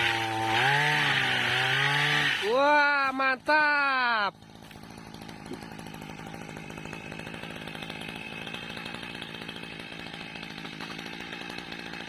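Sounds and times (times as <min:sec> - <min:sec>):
small petrol engine buzzing: 0:00.0 - 0:02.8, 0:04.3 - 0:12.0.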